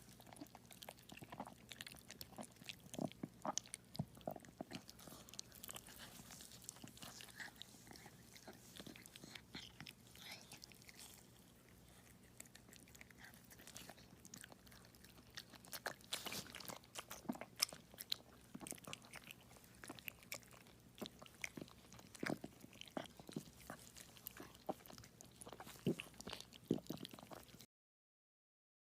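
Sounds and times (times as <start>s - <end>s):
dog licking and chewing: 0.0s - 27.7s.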